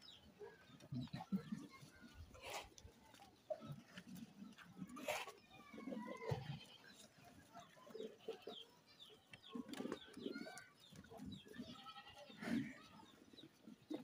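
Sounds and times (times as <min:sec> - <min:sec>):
chickens clucking: 0:00.0 - 0:14.0
small birds chirping: 0:00.0 - 0:14.0.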